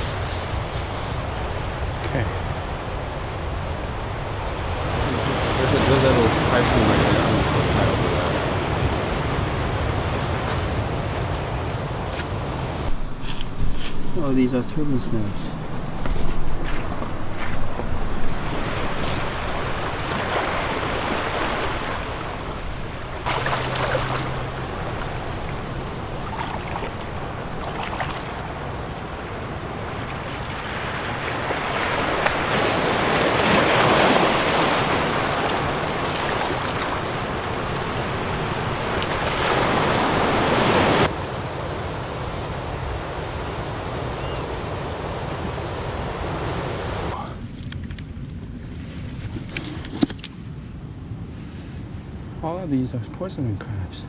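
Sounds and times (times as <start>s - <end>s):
wind on microphone: 0.0s - 50.3s
ocean surf among rocks: 0.0s - 54.0s.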